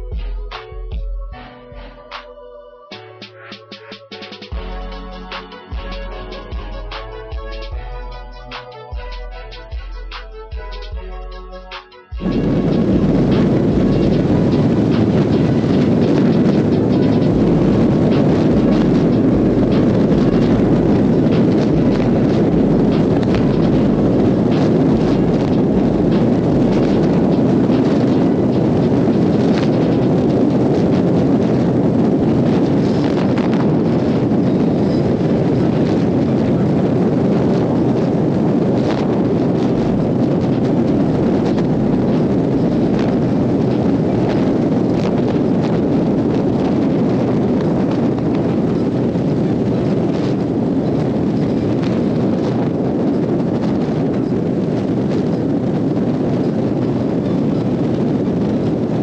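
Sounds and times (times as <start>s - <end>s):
wind rushing on microphone: 0.0s - 1.2s, 12.2s - 59.0s.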